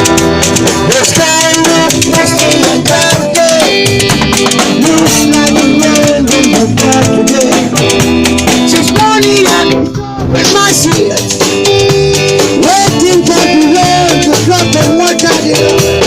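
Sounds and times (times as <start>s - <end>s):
person singing: 0.0s - 11.3s, 12.0s - 15.8s
reggae band playing: 0.0s - 16.0s.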